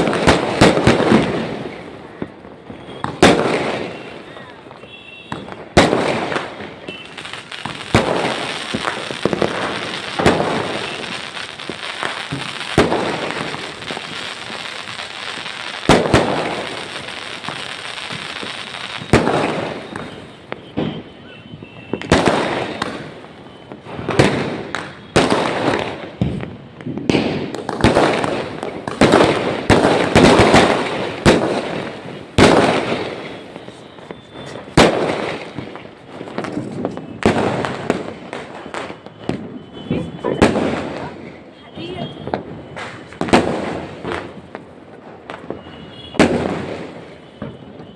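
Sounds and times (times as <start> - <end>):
firecrackers crackling: 0.0 - 47.9
fireworks bangs: 0.0 - 47.9.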